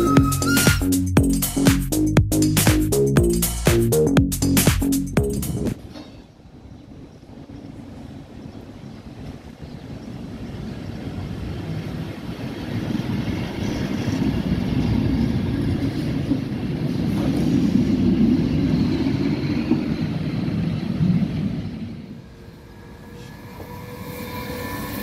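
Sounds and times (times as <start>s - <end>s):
railcar wheels rumbling: 0.0s - 25.0s.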